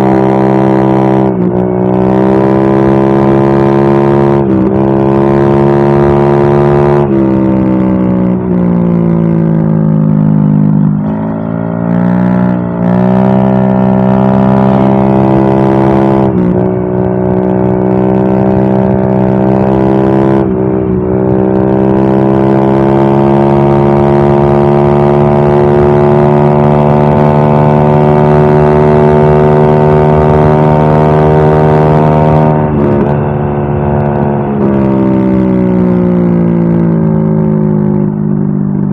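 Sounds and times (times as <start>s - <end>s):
scooter engine droning: 0.0s - 38.9s.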